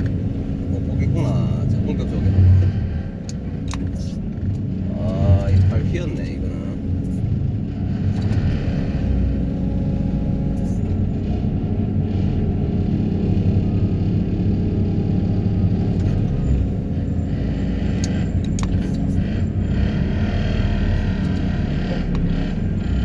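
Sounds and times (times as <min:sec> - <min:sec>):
excavator machine rumble: 0:00.0 - 0:23.0.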